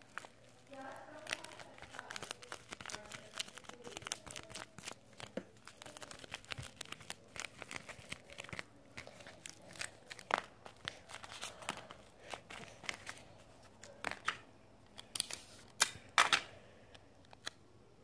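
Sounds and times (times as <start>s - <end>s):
paper crinkling and crackling: 0.0s - 16.4s.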